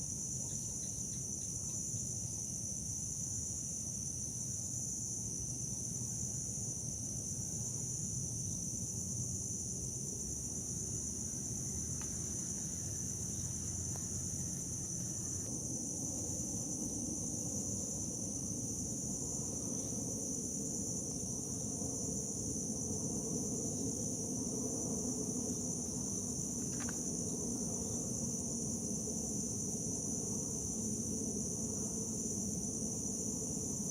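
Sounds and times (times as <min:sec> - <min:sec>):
insect chorus: 0:00.0 - 0:33.9
low rumbling background noise: 0:04.4 - 0:33.9.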